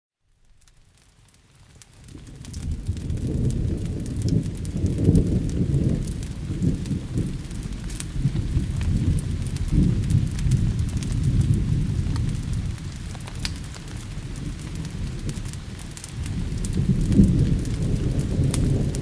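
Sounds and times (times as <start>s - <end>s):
wood fire crackling: 0.3s - 19.0s
rain hissing: 0.6s - 19.0s
thunder rumbling: 2.1s - 19.0s.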